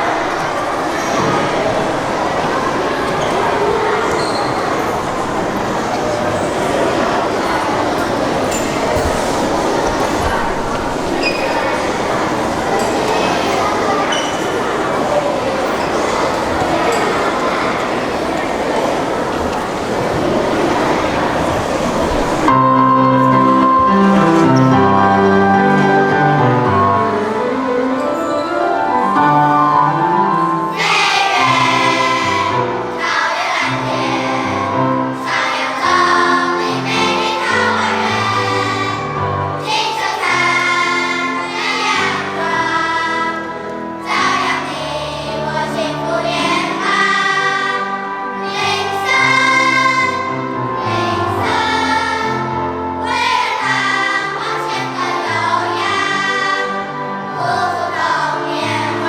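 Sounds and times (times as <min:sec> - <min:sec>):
children's choir singing: 0:00.0 - 0:59.0
musical accompaniment: 0:00.0 - 0:59.0.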